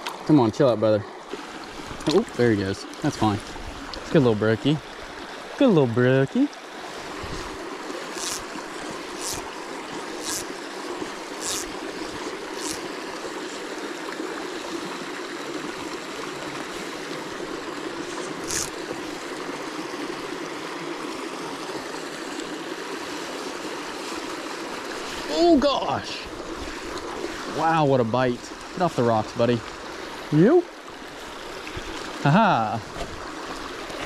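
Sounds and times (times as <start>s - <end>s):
creek running over stones: 0.0s - 34.0s.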